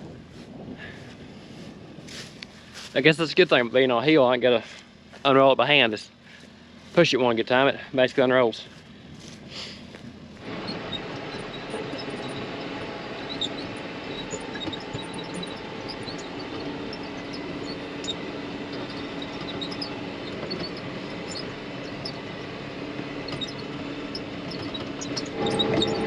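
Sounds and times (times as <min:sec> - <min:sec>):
round baler working: 0:00.0 - 0:26.0
tractor running: 0:00.0 - 0:26.0.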